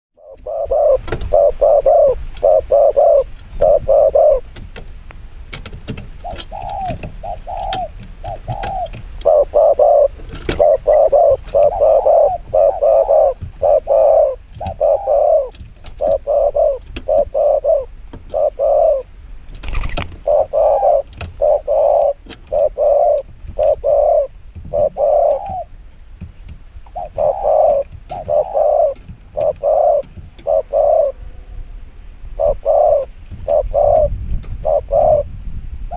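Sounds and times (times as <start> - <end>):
dove cooing rapidly: 0.2 - 4.8, 5.9 - 19.1, 19.7 - 25.8, 26.8 - 31.6, 32.3 - 35.9.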